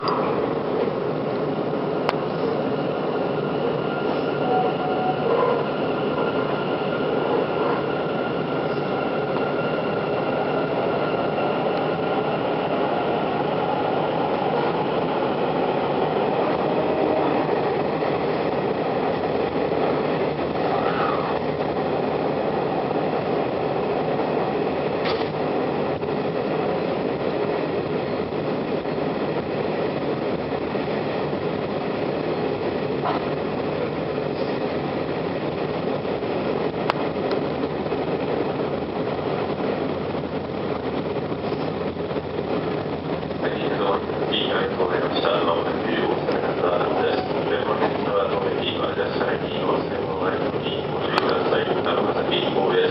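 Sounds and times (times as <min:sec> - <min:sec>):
wheels rumbling on rail: 0:00.0 - 0:52.9.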